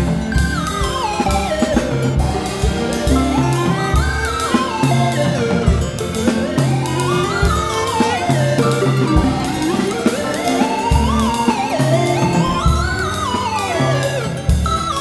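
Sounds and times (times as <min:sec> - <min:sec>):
chamber ensemble playing: 0:00.0 - 0:15.0.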